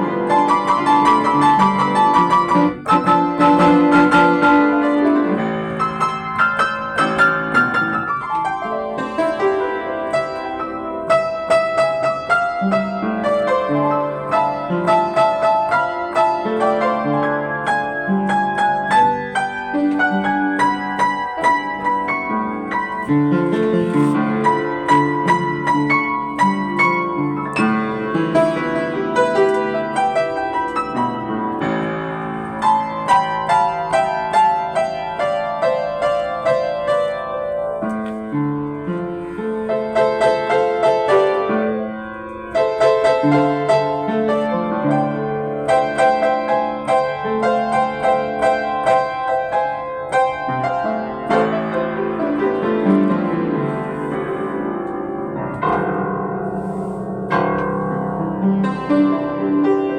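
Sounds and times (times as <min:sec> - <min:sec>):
upright piano playing chords: 0:00.0 - 0:59.9.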